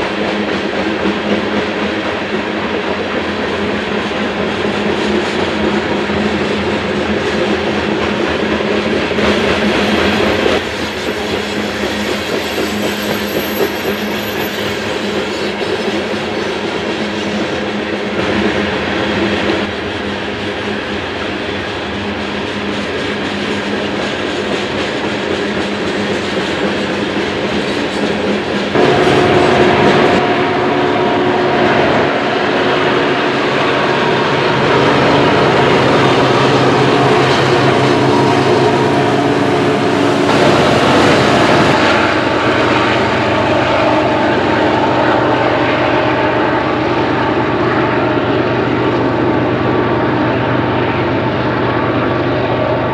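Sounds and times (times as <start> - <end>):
locomotive engine drone: 0.0 - 52.9
rail and wheel noise: 0.0 - 52.9.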